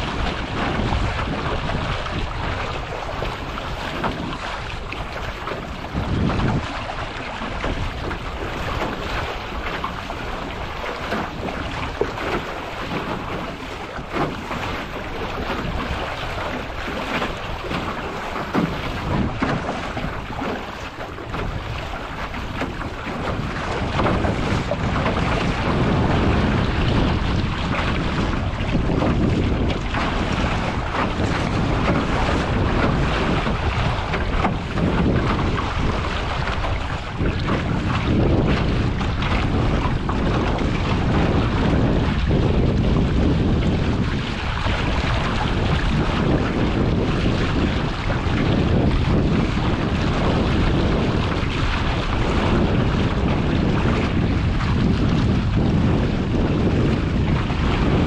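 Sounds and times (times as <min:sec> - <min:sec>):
water slaps: 0:00.0 - 0:58.0
water splashing along hull: 0:00.0 - 0:58.0
wind on microphone: 0:00.0 - 0:58.0.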